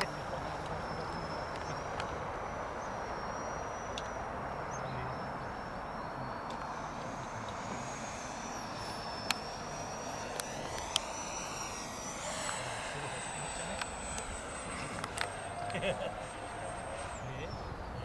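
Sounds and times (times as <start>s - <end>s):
model jet rushing hiss and whine: 0.0s - 18.0s.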